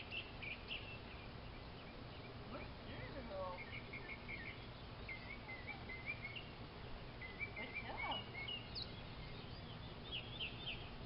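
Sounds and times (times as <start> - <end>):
bird chirping: 0.0 - 11.0
outdoor background hum: 0.0 - 11.0.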